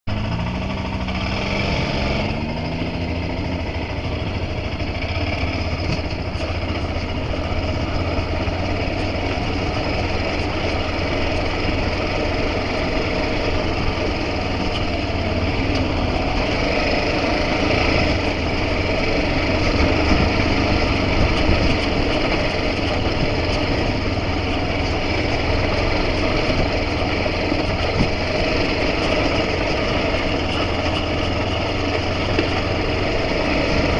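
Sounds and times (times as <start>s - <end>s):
vehicle engine running: 0.1s - 33.9s.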